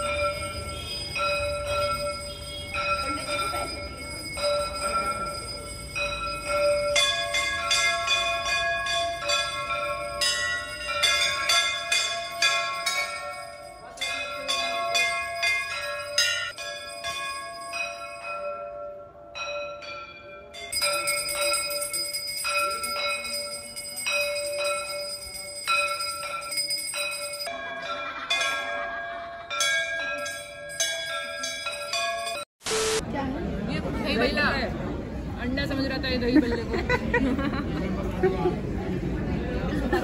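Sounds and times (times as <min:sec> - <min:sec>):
brass temple bells clanging: 0:00.0 - 0:32.5.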